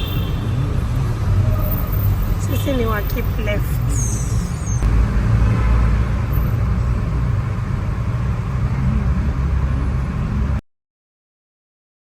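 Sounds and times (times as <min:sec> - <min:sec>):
road traffic rumble: 0:00.0 - 0:10.6.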